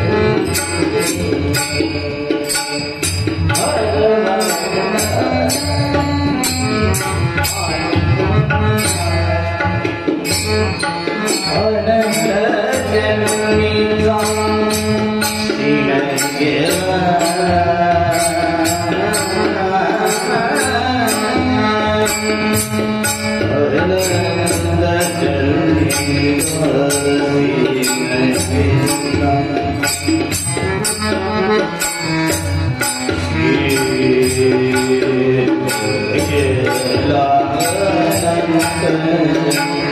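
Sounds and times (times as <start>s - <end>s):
hand drum rhythm: 0.0s - 39.9s.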